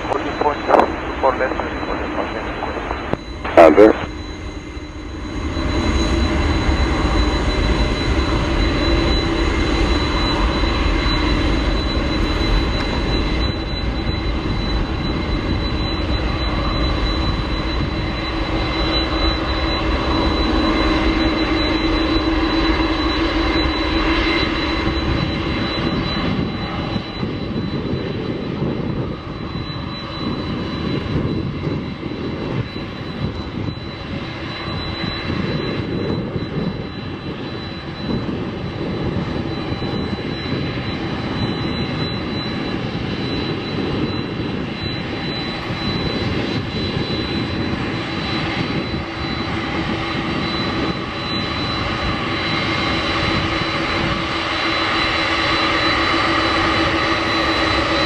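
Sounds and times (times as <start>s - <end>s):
high jet engine whine: 0.0s - 58.0s
jet engines rumbling: 0.0s - 58.0s.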